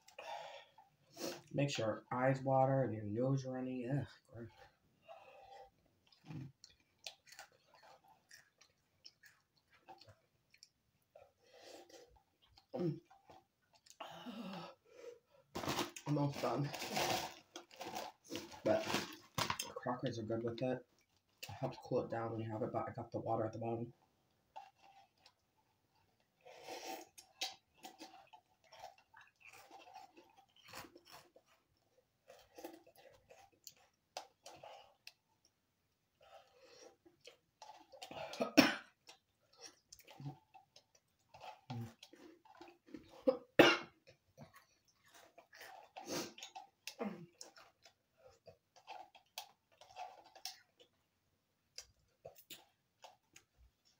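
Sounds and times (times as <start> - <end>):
person chewing noodles: 0.0 - 1.5, 4.1 - 19.7, 20.8 - 21.6, 24.0 - 53.9.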